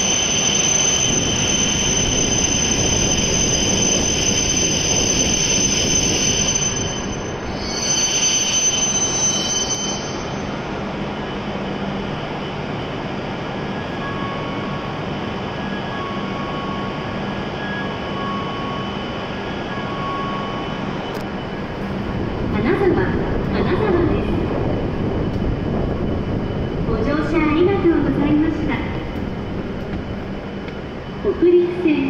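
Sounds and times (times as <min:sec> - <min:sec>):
train equipment humming: 0:00.0 - 0:32.0.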